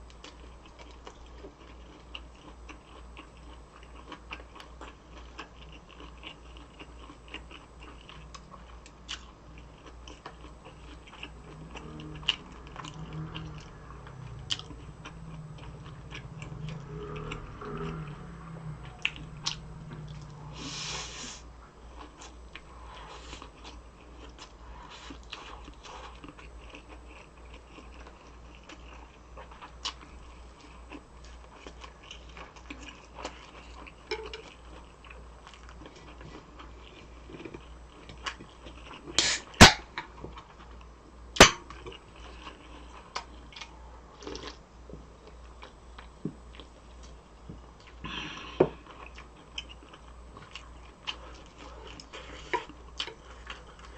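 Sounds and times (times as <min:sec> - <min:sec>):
chewing food: 0:00.0 - 0:20.5, 0:21.7 - 0:53.9.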